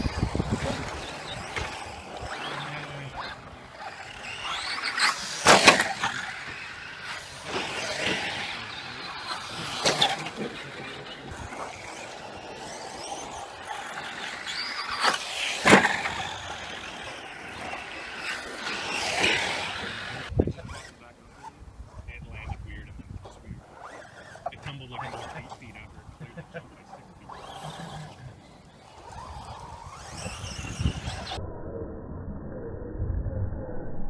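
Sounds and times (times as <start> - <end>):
rc truck motors whining: 0.0 - 31.4.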